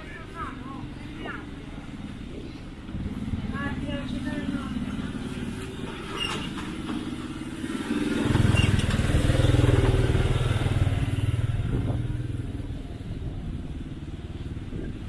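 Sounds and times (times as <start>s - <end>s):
vehicle engine passing: 1.6s - 15.0s.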